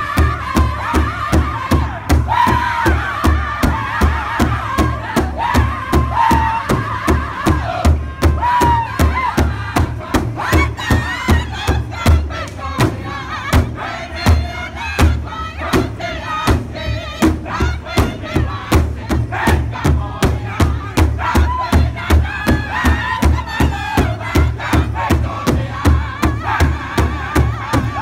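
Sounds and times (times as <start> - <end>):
large hand drum beating: 0.0 - 28.0
male voices singing high chorus: 0.0 - 28.0.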